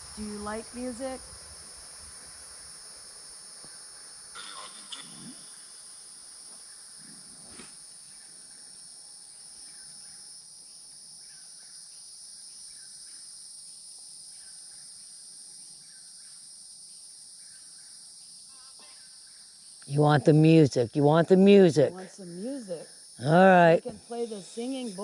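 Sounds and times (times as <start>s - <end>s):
crickets droning: 0.0s - 25.0s.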